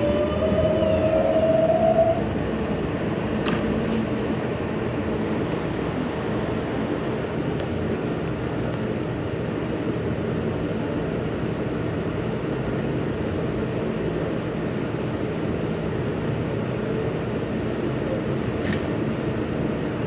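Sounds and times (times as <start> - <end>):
subway train running on tracks: 0.0 - 20.0.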